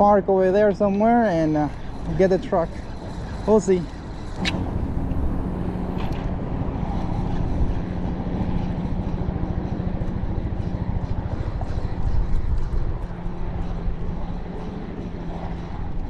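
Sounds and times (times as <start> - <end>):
low engine hum: 1.8 - 16.0.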